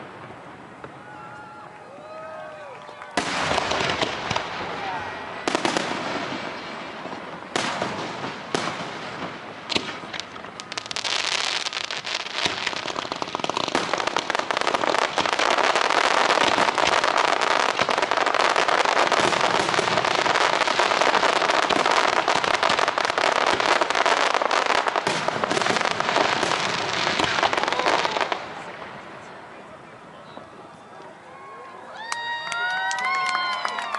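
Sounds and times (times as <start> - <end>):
fireworks bangs and crackles: 0.0 - 31.1.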